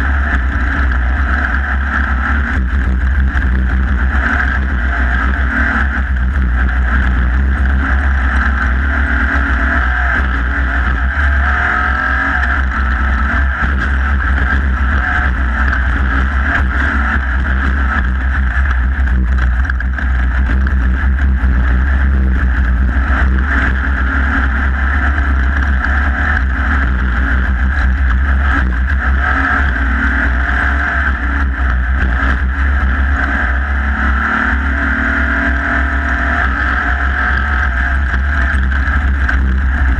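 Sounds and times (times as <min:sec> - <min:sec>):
race vehicle engine running hard: 0:00.0 - 0:39.9
rough terrain noise: 0:00.0 - 0:39.9.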